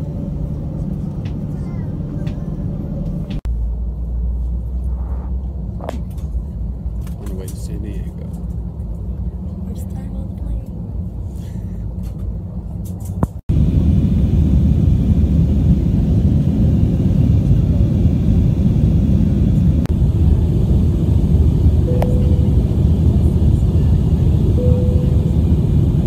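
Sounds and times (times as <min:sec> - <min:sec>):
airliner cabin roar: 0:00.0 - 0:26.0.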